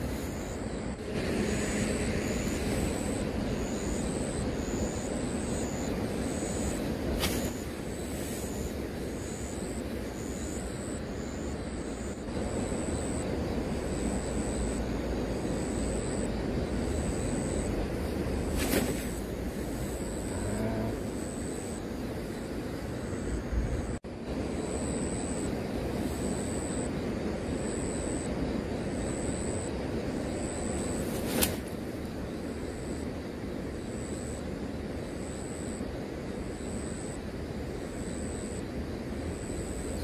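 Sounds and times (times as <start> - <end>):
outdoor background rumble: 0.0 - 40.0.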